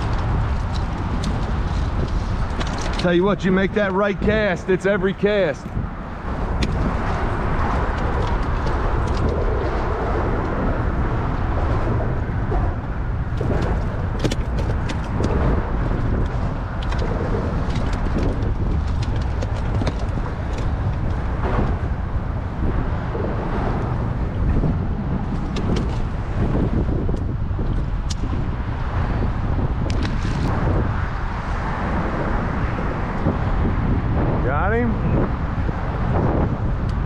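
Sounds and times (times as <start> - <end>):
wind rumbling on microphone: 0.0 - 37.0.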